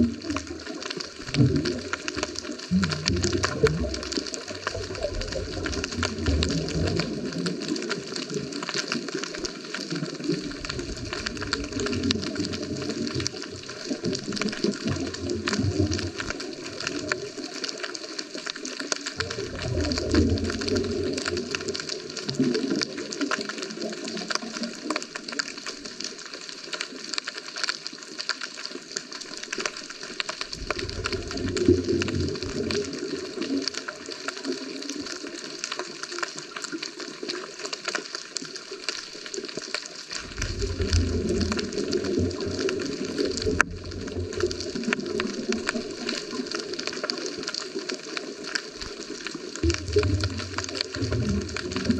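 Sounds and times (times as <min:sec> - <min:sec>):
faint underwater crackle: 0:00.0 - 0:51.9
underwater bubbles gurgling: 0:00.0 - 0:51.9.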